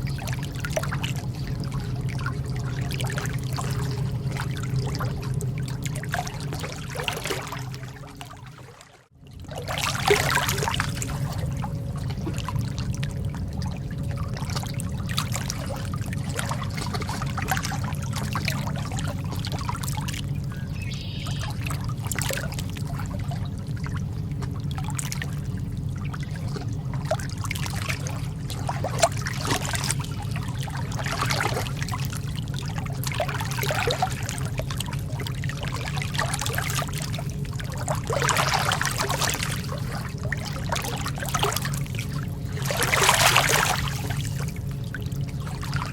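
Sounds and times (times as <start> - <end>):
lake water lapping at shore: 0.0 - 45.9
small water splashes: 0.0 - 45.9
steady low rumble: 0.0 - 45.9.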